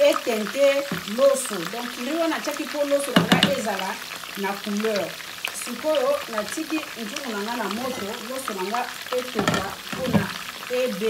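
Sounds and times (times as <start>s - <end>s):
pot bubbling: 0.0s - 11.0s.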